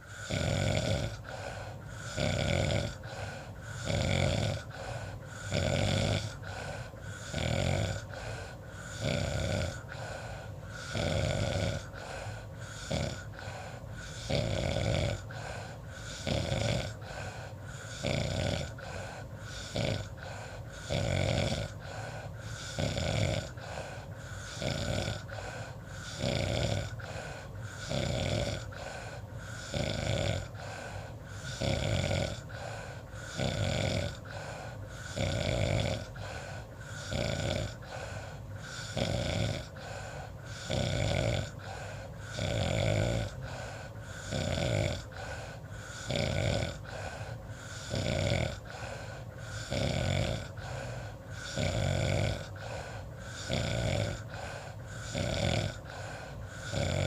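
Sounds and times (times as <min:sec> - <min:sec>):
faint steady background tone: 0:00.0 - 0:57.0
person snoring: 0:00.0 - 0:57.0.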